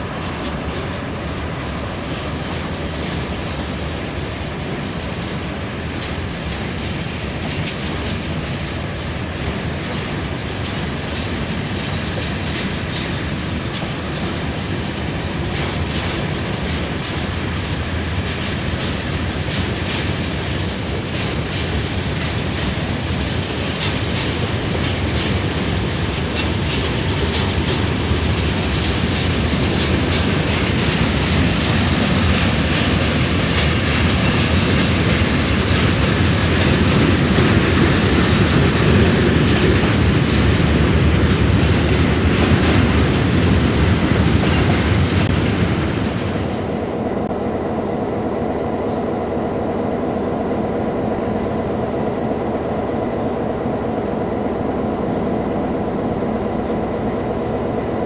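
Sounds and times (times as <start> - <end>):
clatter over rail joints: 0.0 - 47.4
freight wagons rolling on rails: 0.0 - 47.6
diesel locomotive engine humming: 0.0 - 58.0.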